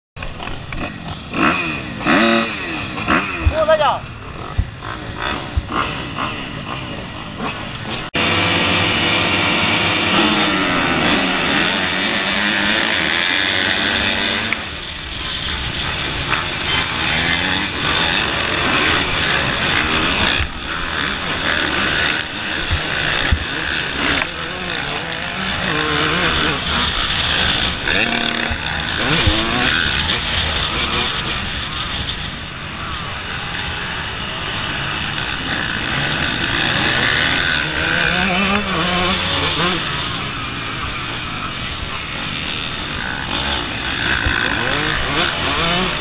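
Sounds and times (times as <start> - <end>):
motocross bikes revving: 0.2 - 46.0.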